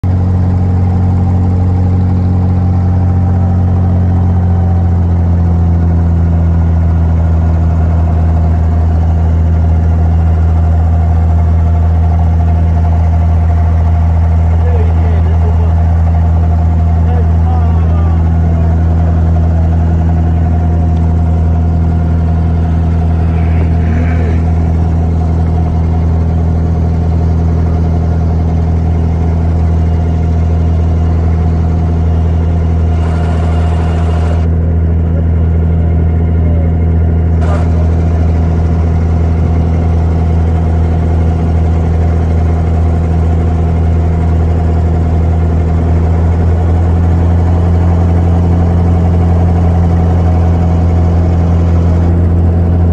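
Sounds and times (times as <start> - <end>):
boat diesel engine low hum: 0.0 - 52.9.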